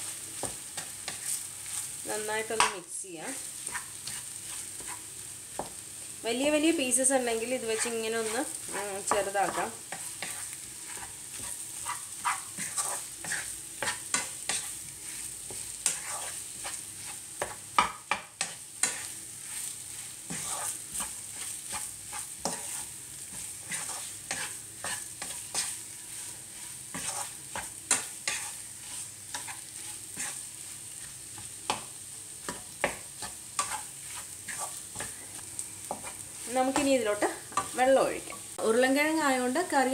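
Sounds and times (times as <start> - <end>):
wooden spatula scraping a pan: 0.0 - 5.8, 6.8 - 38.9
frying sizzle: 0.0 - 39.9.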